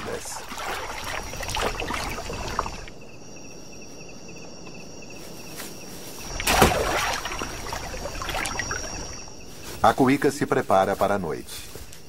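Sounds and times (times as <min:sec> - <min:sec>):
insect pulsing trill: 0:00.0 - 0:12.0
insects buzzing: 0:00.0 - 0:12.0.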